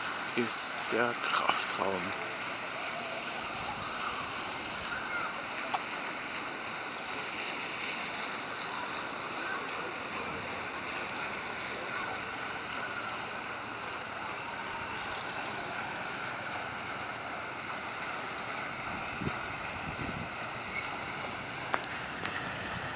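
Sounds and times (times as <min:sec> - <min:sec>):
fountain water splashing into pool: 0:00.0 - 0:22.9.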